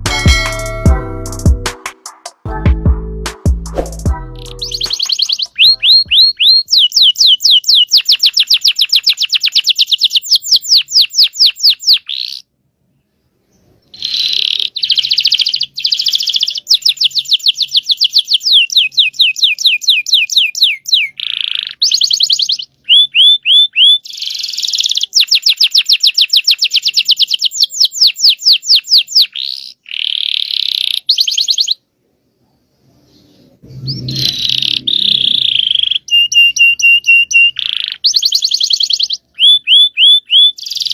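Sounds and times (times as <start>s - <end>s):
canary singing trills: 4.1s - 12.5s, 13.6s - 31.8s, 33.1s - 40.9s.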